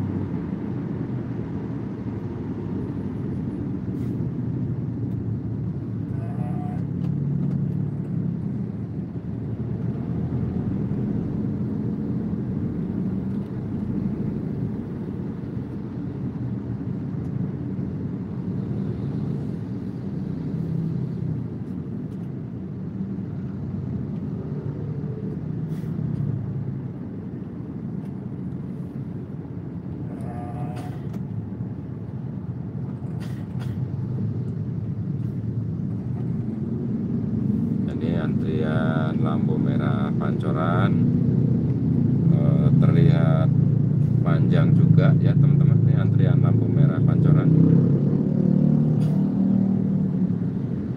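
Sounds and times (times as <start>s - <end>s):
car engine rumble from cabin: 0.0s - 50.9s.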